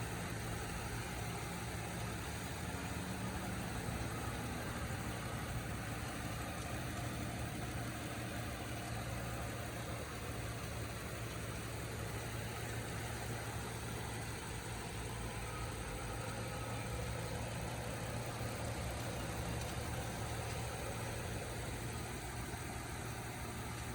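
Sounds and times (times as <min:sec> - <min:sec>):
truck engine idling: 0:00.0 - 0:23.9.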